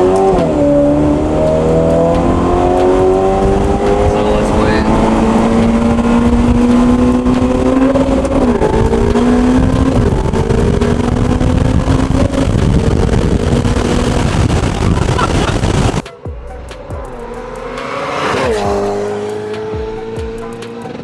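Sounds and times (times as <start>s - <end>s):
heavy low rumble: 0.0s - 20.5s
sports car engine revving: 0.0s - 21.0s.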